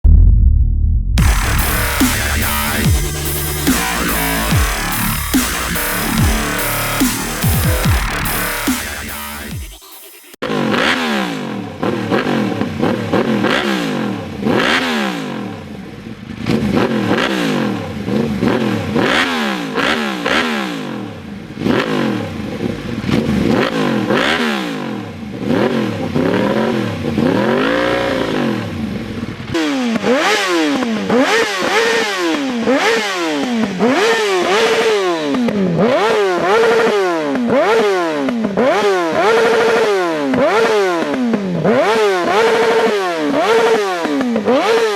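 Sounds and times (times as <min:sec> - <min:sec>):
motorcycle engine revving: 0:01.2 - 0:44.9.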